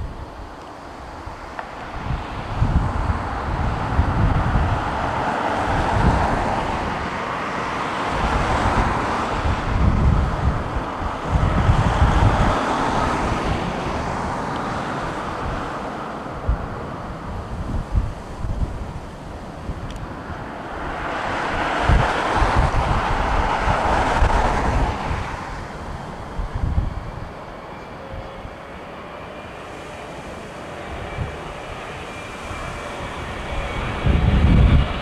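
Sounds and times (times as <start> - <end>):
jet airliner passing: 0.0 - 35.0
wind buffeting microphone: 0.0 - 35.0.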